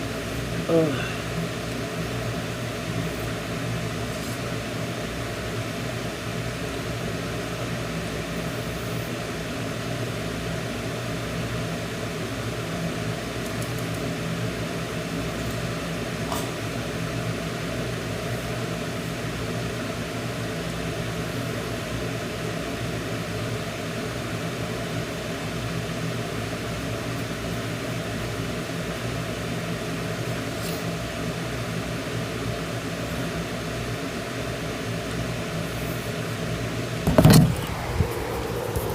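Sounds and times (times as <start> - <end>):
mechanical hum with low drone: 0.0 - 38.9.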